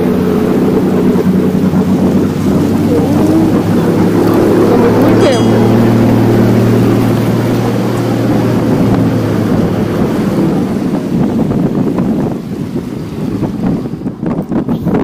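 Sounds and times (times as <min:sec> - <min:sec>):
vehicle engine hum: 0:00.0 - 0:15.0
water churning and splashing: 0:00.0 - 0:15.0
wind buffeting microphone: 0:00.0 - 0:15.0.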